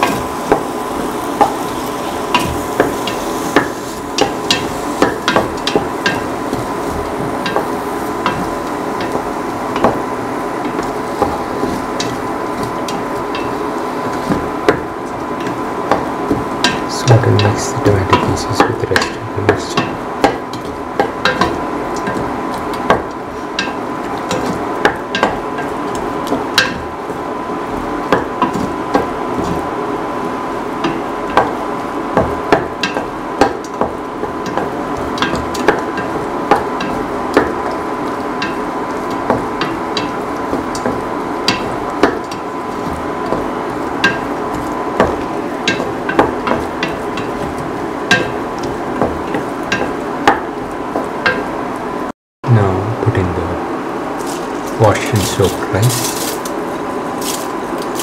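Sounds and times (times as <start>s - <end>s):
frying sizzle: 0.0s - 52.1s, 52.8s - 58.0s.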